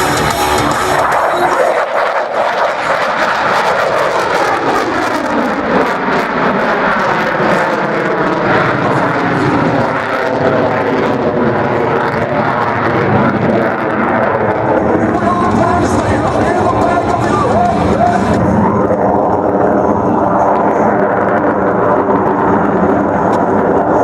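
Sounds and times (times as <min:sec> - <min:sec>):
fighter jet engines roaring: 0:00.0 - 0:24.0.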